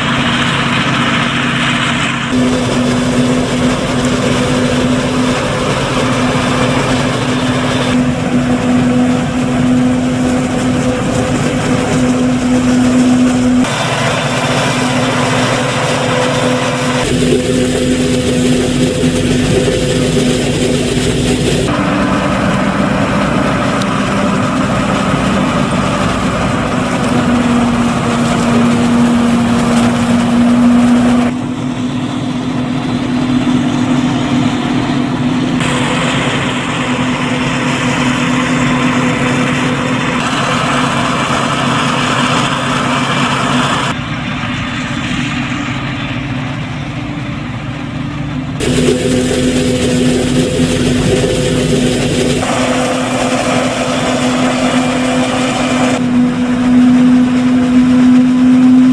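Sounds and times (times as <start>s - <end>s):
tractor and harvester engines: 0.0s - 58.9s.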